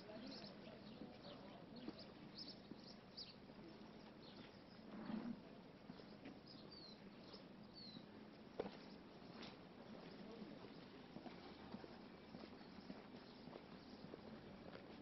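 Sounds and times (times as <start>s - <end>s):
small birds chirping: 0.0s - 4.9s, 5.5s - 14.9s.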